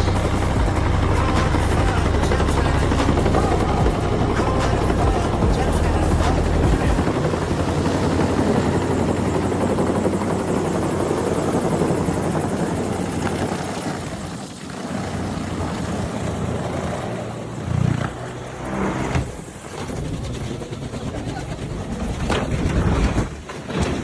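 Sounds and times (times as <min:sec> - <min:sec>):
helicopter flying close by: 0:00.0 - 0:24.0.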